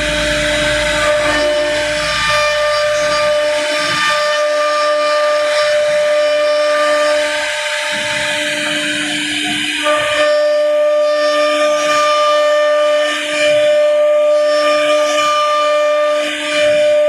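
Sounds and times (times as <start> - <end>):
router spindle whine: 0.0 - 17.0.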